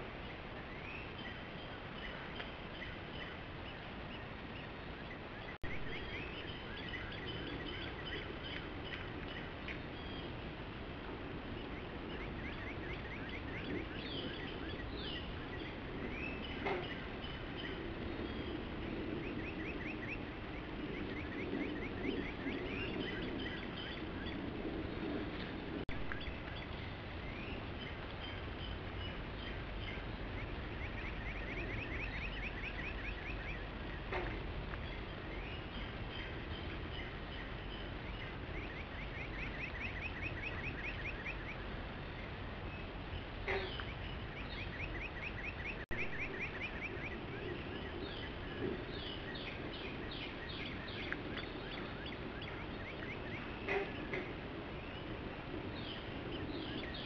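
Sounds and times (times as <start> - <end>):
birds trilling and chirping: 0.0 - 57.0.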